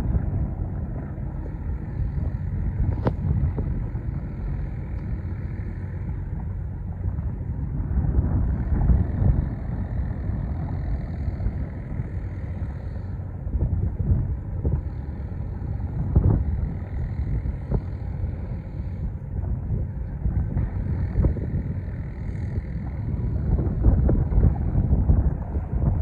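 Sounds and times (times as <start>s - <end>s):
boat engine rumbling: 0.0s - 26.0s
wind buffeting microphone: 0.0s - 26.0s.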